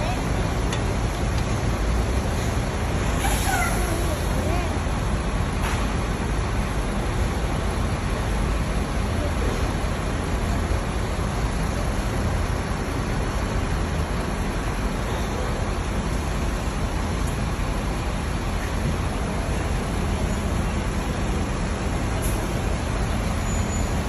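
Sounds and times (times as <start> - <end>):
bus engines rumbling and hissing: 0.0 - 24.0.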